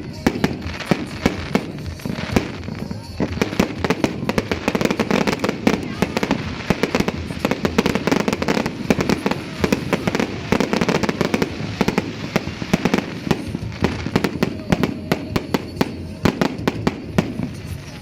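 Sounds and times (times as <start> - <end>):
fireworks and firecrackers popping: 0.0 - 18.0.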